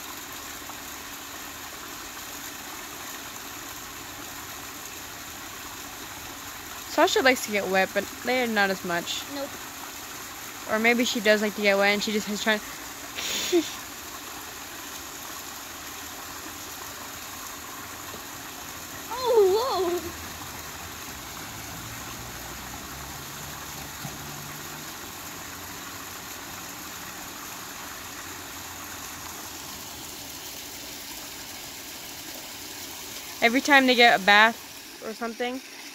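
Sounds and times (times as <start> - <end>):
water pouring over stones: 0.0 - 35.9.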